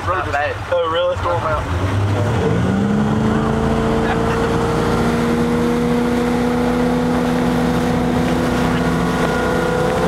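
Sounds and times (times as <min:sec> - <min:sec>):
motorboat engine drone: 0:00.0 - 0:10.0
water rushing: 0:00.0 - 0:10.0.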